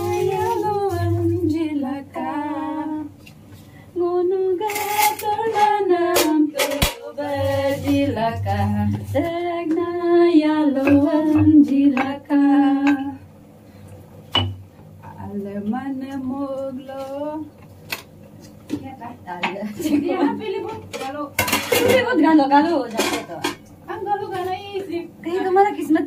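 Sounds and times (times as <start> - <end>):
woman singing unaccompanied: 0.0 - 3.2, 4.0 - 13.2, 15.0 - 17.5, 18.8 - 26.0.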